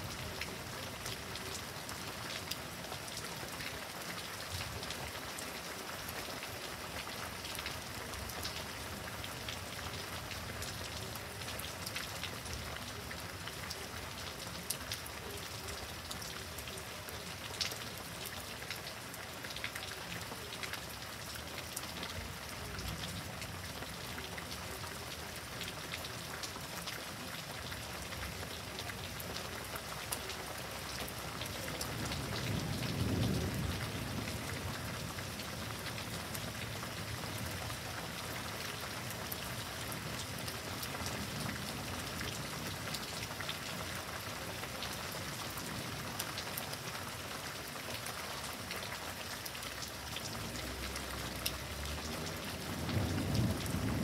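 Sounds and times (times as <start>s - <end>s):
heavy rain: 0.0s - 54.0s
raindrops tapping on surfaces: 0.0s - 54.0s.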